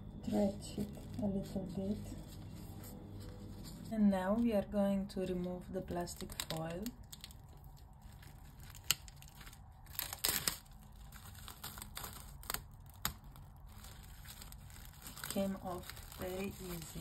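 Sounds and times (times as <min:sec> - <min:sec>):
cling film crinkling: 0:00.2 - 0:04.6, 0:05.2 - 0:17.0.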